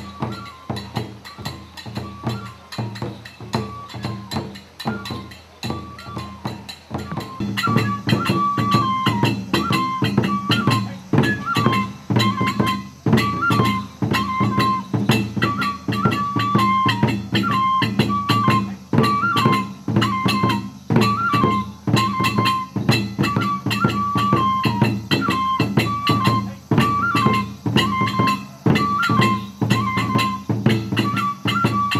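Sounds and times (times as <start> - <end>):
bamboo flute melody: 0.0 - 31.9.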